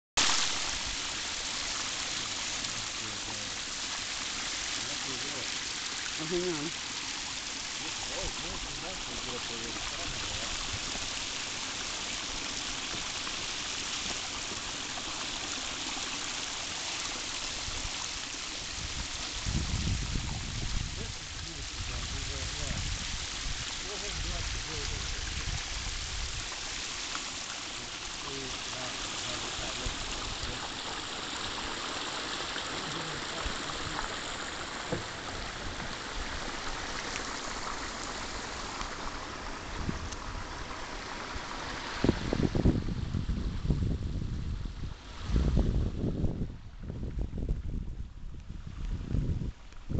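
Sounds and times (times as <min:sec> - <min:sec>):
creek water rushing: 0:00.2 - 0:47.5.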